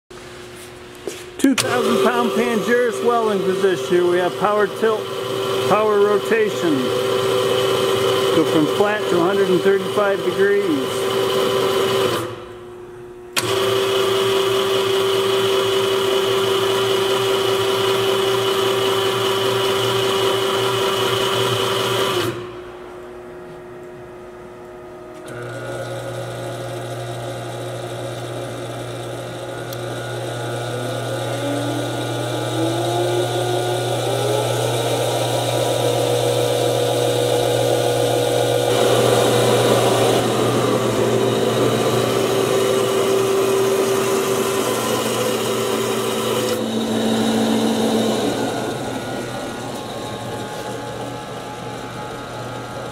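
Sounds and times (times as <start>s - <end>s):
low motor hum: 0.2s - 21.2s, 21.9s - 52.9s
electric gear motor whine: 1.4s - 12.6s, 13.3s - 23.2s, 25.2s - 52.9s.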